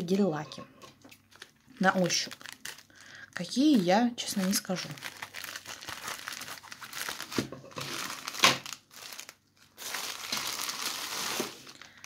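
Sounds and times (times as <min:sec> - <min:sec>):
plastic bag crinkling: 0:01.1 - 0:12.0.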